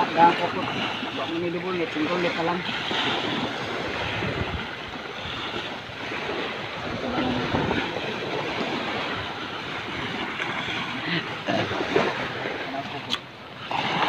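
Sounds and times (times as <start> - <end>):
small waves washing ashore: 0.0 - 14.0
wind buffeting microphone: 0.0 - 14.0.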